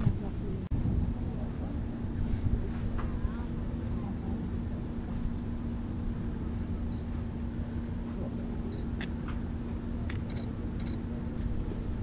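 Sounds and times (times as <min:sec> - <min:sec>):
low hum: 0:00.0 - 0:12.0
low rumble: 0:00.0 - 0:12.0.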